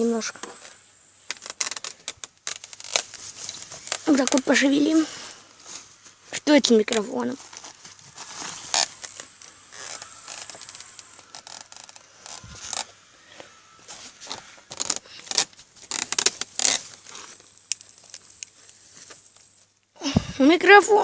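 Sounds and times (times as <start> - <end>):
stick stirring campfire embers: 1.3 - 19.6.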